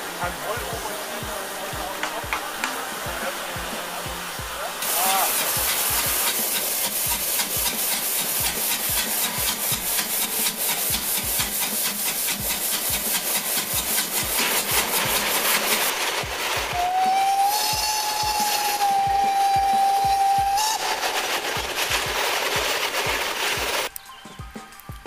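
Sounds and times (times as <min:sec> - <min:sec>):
steam locomotive chuffing: 0:00.0 - 0:24.0
steam hiss: 0:00.0 - 0:25.0.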